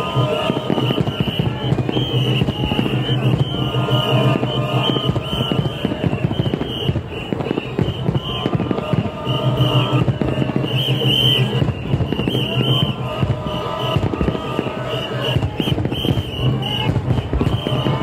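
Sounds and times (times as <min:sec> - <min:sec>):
festival crowd: 0:00.0 - 0:18.0
sharp cracks and bangs: 0:00.3 - 0:18.0.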